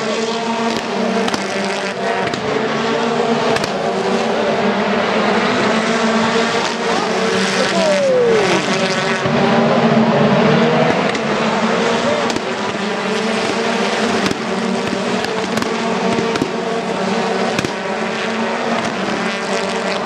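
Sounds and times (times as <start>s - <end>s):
racing car engines passing: 0.0s - 20.0s.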